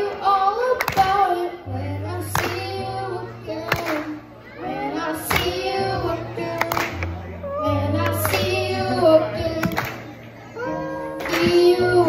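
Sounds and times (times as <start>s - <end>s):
pop music with singing voice: 0.0s - 12.0s.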